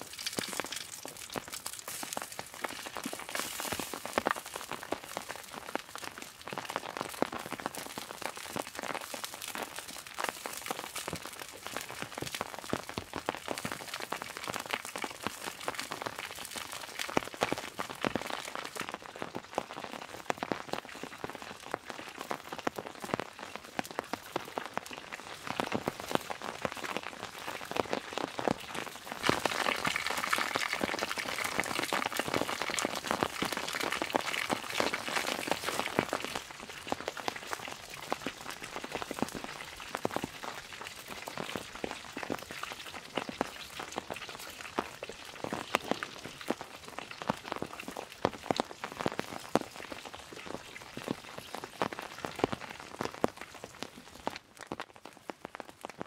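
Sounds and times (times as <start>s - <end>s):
rain drops pattering: 0.0s - 56.0s.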